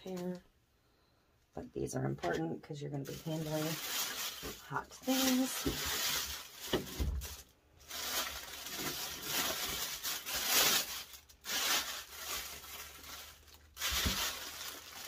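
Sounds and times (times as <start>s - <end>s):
plastic bag crinkling: 2.2s - 15.0s.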